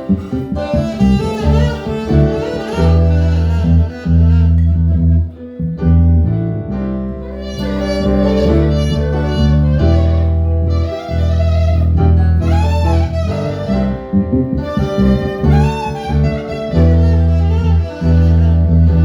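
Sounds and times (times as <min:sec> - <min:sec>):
bowed strings music: 0:00.0 - 0:19.0
sustained low notes: 0:00.0 - 0:19.0.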